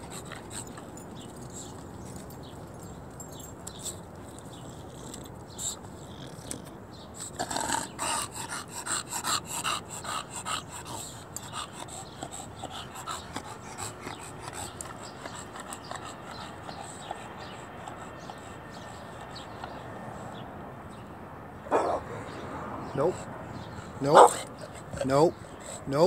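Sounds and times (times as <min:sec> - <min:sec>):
dog panting heavily: 0:00.0 - 0:21.0, 0:23.0 - 0:26.0.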